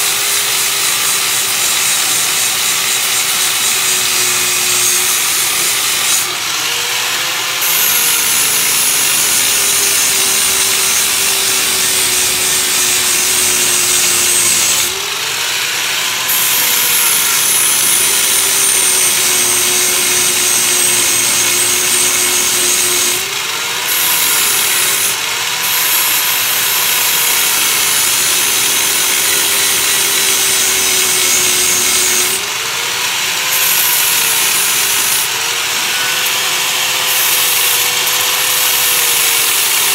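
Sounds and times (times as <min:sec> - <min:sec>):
rotary grinder scrubbing metal: 0:00.0 - 0:39.9.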